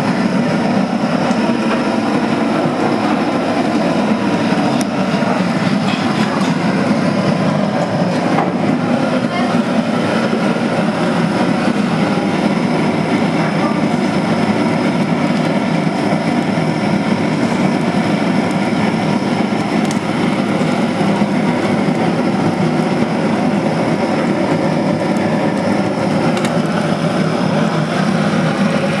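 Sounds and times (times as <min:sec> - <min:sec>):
loud rushing kitchen noise: 0:00.0 - 0:29.0.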